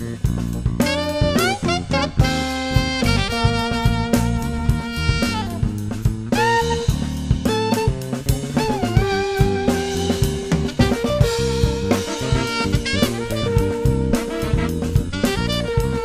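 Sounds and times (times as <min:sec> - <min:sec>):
drum kit: 0:00.0 - 0:16.0
electric bass: 0:00.0 - 0:16.0
keyboard: 0:00.0 - 0:16.0
saxophone lead line: 0:00.0 - 0:16.0.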